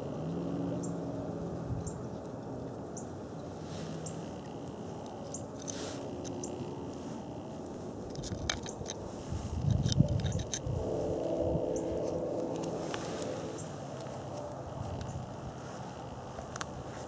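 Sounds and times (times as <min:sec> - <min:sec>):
low background rumble: 0:00.0 - 0:17.0
crackles and scrapes on gravel: 0:02.1 - 0:17.0.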